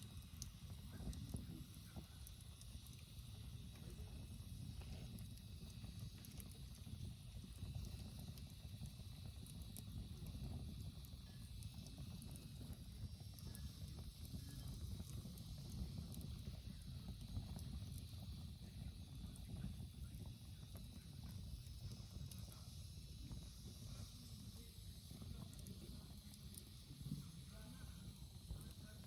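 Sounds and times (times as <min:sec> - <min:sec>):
campfire crackling: 0:00.0 - 0:29.0
rumble of flames: 0:00.0 - 0:29.0.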